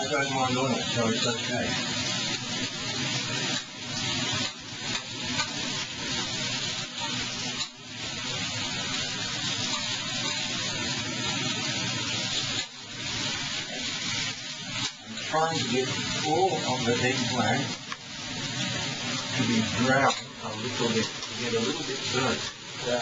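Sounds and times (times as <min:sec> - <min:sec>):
eggplant sizzling in hot oil: 0:00.0 - 0:23.0.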